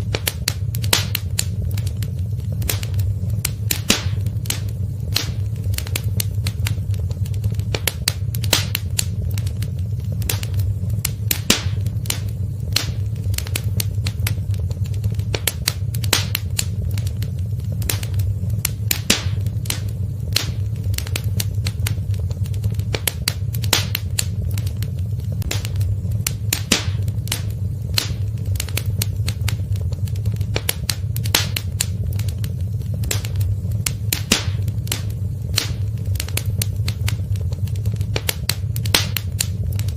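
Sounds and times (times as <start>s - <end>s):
fire pops and snaps: 0.0s - 39.9s
low rumble of burning fire: 0.0s - 39.9s.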